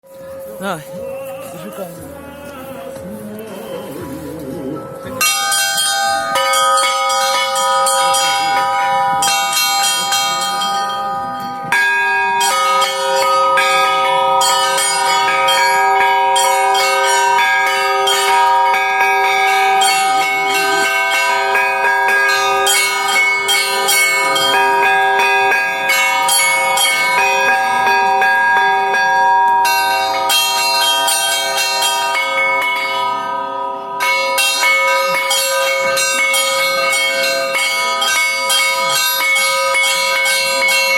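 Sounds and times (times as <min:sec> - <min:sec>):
church bells ringing: 0:03.8 - 0:40.9.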